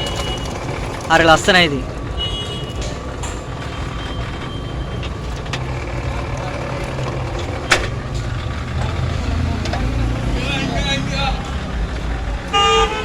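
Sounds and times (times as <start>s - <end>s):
juice crusher rumbling: 0.0s - 12.4s.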